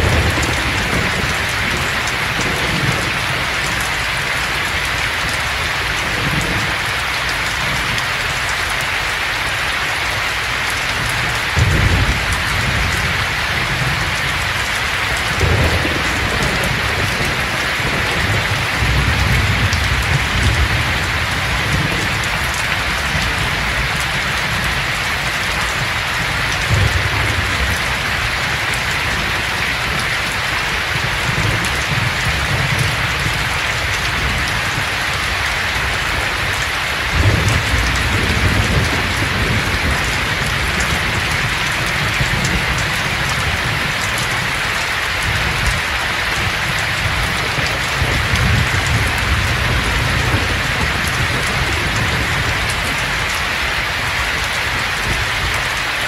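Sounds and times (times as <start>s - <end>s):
thunder rumbling: 0.0s - 8.0s, 10.1s - 55.9s
steady rain falling: 0.0s - 56.0s.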